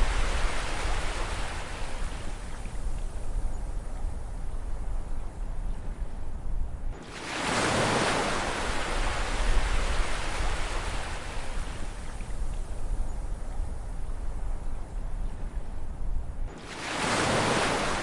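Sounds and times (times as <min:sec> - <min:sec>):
low rumble of surf: 0:00.0 - 0:18.0.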